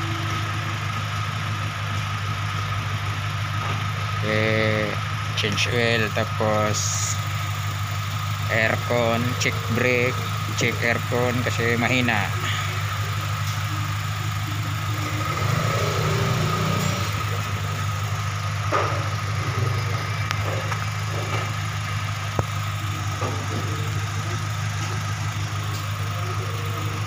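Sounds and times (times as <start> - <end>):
car engine idling: 0.0 - 27.0
high-pitched hum: 0.0 - 27.0.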